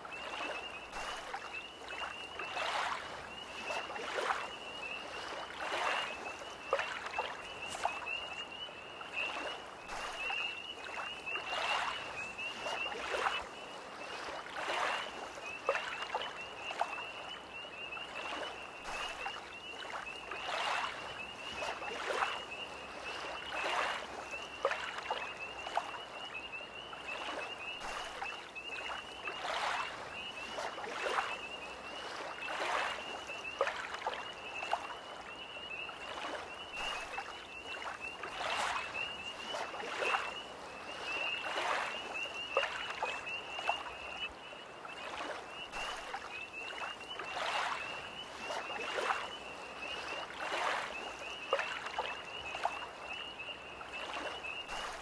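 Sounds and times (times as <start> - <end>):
tree frogs trilling: 0.0 - 55.0
waves lapping against shore: 0.0 - 55.0.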